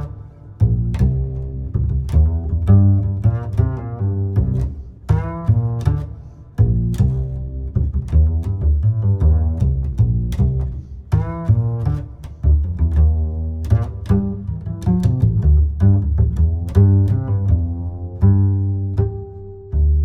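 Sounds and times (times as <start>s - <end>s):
instrumental music with bass line: 0.0s - 20.0s.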